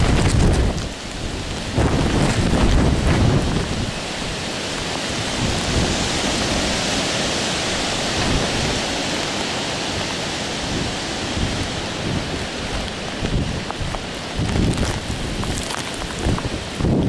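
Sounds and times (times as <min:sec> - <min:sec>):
wind and rain hissing: 0:00.0 - 0:17.0
wind gusts on microphone: 0:00.0 - 0:17.0.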